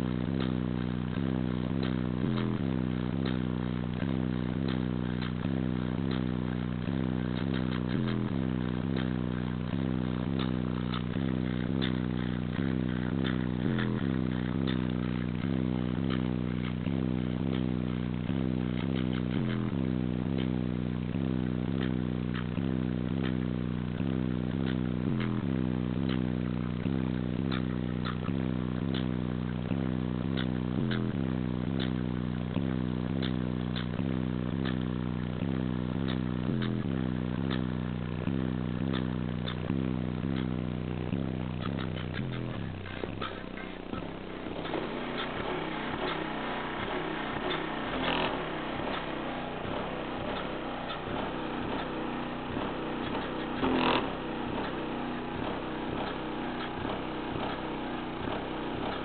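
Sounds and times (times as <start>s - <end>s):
subwoofer playing bass-heavy electronic music: 0.0s - 59.0s.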